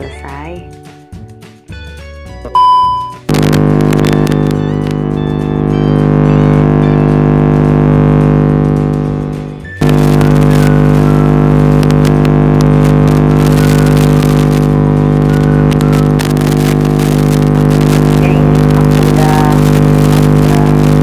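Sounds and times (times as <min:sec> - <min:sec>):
buzzing drone: 0:03.3 - 0:21.0
crackling static: 0:03.3 - 0:21.0.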